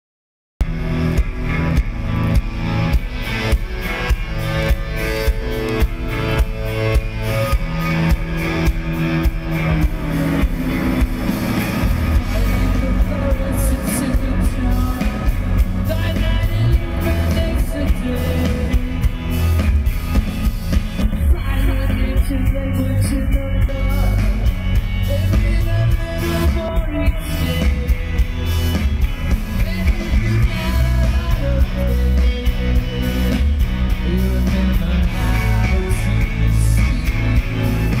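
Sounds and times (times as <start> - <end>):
rock band playing: 0.6 - 38.0.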